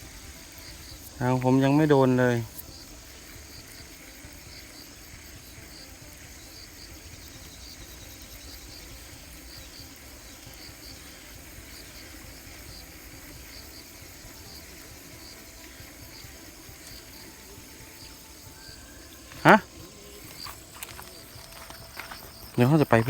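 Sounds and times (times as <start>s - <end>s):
faint steady hiss: 0.0s - 23.0s
insects chirping: 0.0s - 23.0s.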